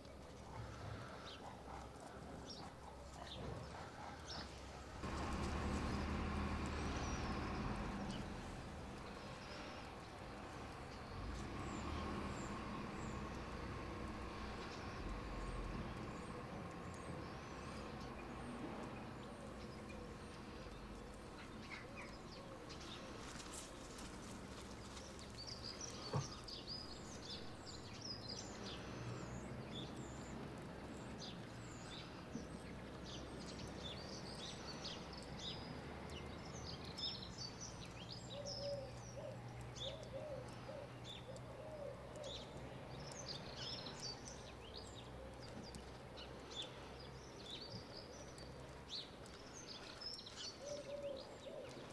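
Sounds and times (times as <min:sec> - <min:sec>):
low outdoor rumble: 0:00.0 - 0:51.9
small birds chirping: 0:00.0 - 0:51.9.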